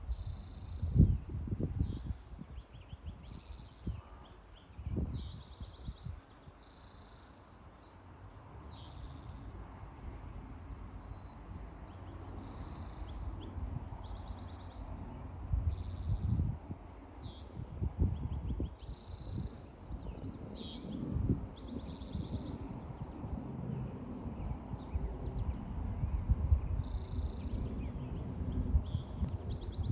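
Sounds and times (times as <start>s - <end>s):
songbirds singing: 0.0s - 9.7s, 10.5s - 29.9s.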